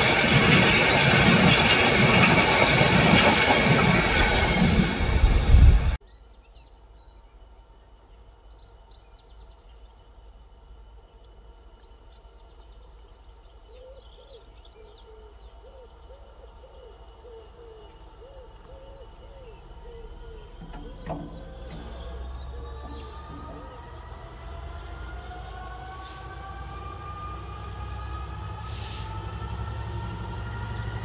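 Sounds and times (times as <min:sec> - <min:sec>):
birds chirping and twittering: 0:00.6 - 0:28.6.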